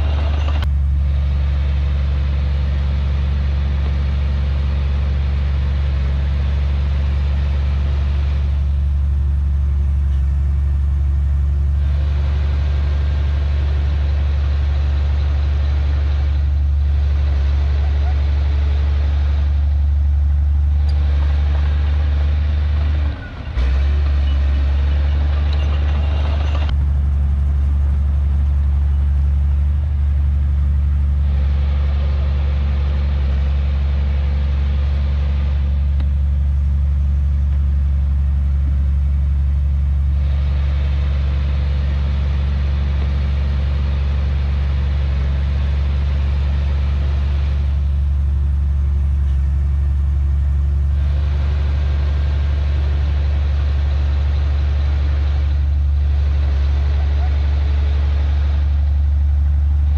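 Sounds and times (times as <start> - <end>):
bright noisy engine layer: 0.0 - 59.9
diesel machinery engine running: 0.0 - 59.9.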